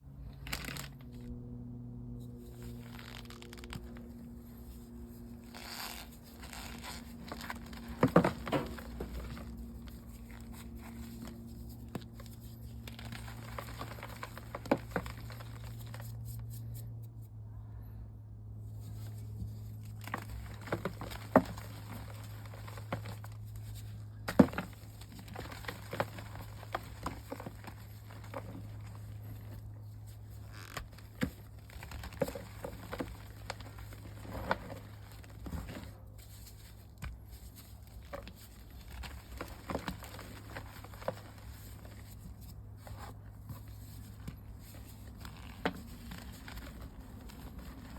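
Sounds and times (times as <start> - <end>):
chalk crumbling by hand: 2.5 - 17.3, 18.7 - 47.9.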